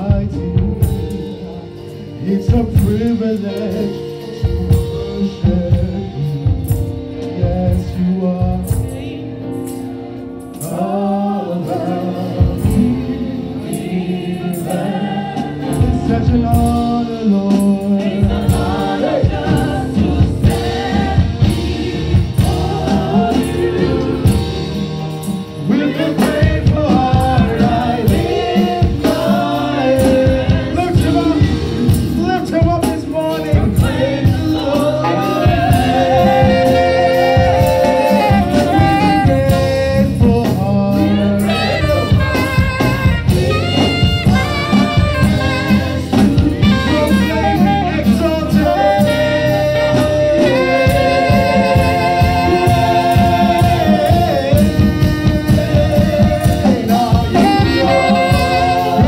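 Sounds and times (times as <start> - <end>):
band with drums: 0.0 - 9.2, 11.7 - 59.0
lead singer singing: 0.0 - 59.0
backing choir: 10.6 - 59.0.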